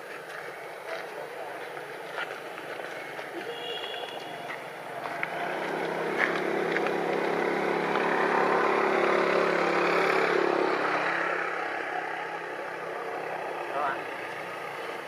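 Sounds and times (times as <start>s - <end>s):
vehicle engine running: 0.3s - 15.0s.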